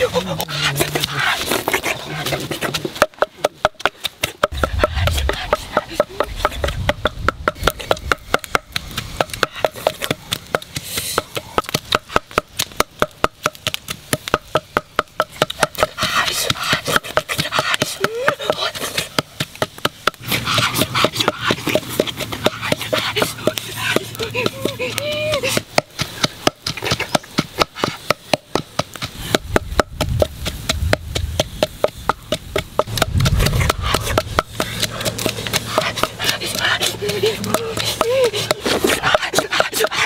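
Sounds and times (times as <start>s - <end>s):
pestle pounding in wooden mortar: 0.4s - 40.0s.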